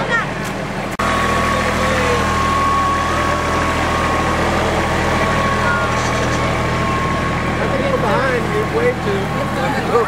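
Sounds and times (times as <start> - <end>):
vehicle engine running: 0.0 - 10.0
high whine: 1.0 - 10.0.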